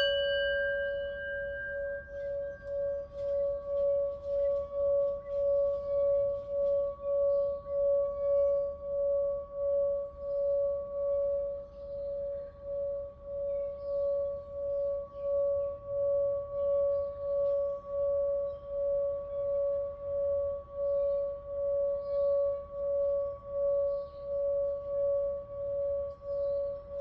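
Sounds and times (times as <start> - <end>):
singing bowl ringing: 0.0 - 27.0.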